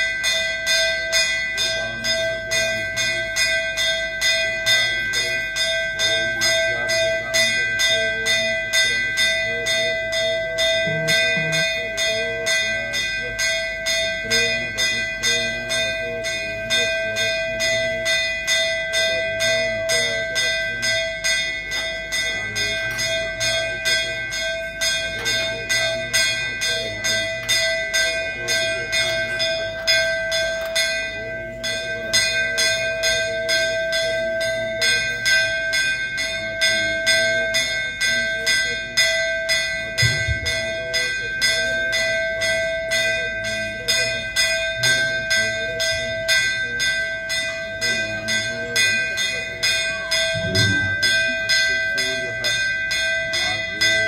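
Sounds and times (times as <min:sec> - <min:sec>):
bell struck rapidly: 0:00.0 - 0:54.0.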